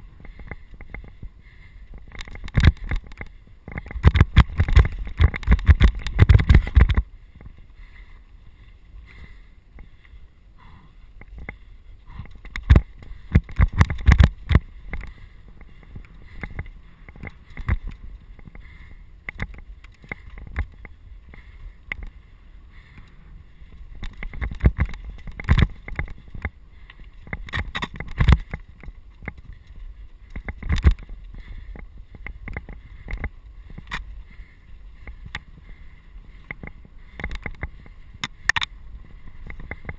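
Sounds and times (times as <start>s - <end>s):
bike rattles and knocks: 0.0s - 7.6s, 11.2s - 22.2s, 23.7s - 34.1s, 36.4s - 39.9s
bike riding low rumble: 0.0s - 39.9s.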